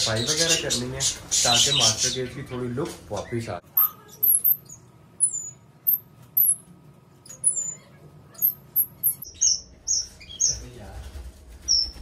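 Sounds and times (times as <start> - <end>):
small birds chirping: 0.0 - 6.6, 7.2 - 10.8, 11.6 - 12.0.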